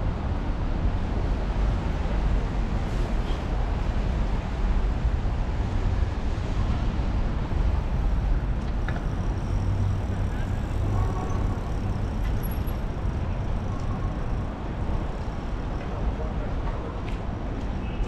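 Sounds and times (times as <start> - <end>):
cars and buses passing: 0.0 - 18.0.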